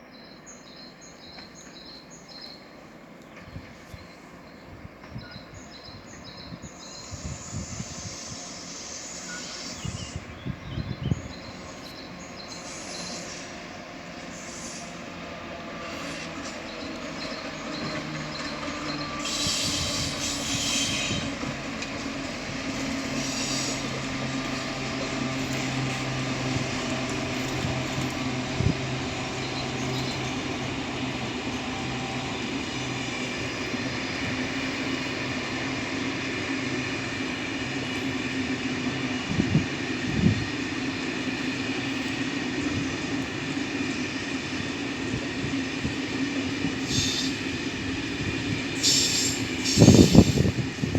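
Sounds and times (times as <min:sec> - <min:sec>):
train rolling rumble: 0:00.0 - 0:50.9.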